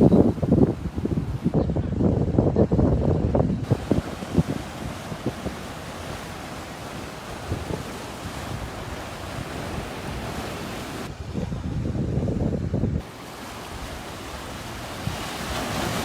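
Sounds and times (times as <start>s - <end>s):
sea surf on shore: 0.0s - 16.0s
wind buffeting microphone: 0.0s - 16.0s.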